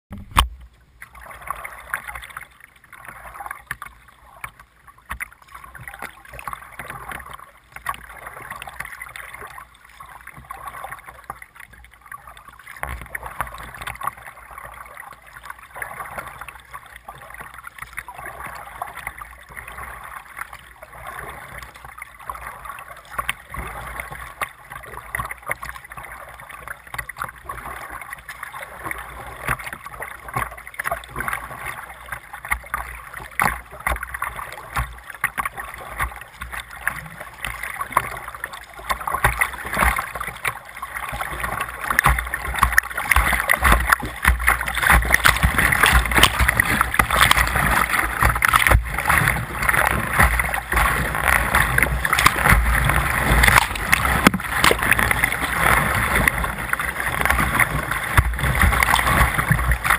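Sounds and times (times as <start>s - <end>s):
choppy rapid water: 0.1s - 59.9s
water splashing against kayak hull: 0.1s - 59.9s.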